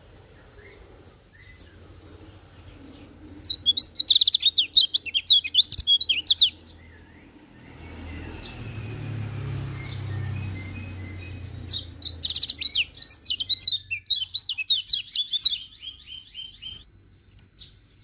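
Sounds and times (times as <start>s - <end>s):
low background rumble: 0.0s - 18.0s
bird high chattering song: 0.4s - 16.9s.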